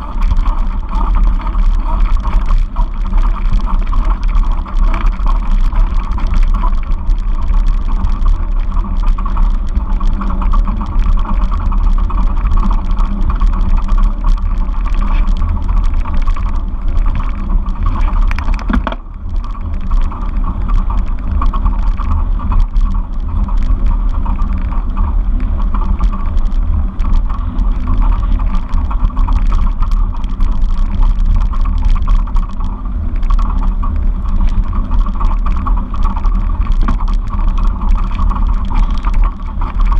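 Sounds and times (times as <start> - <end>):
deep rumble: 0.0 - 39.9.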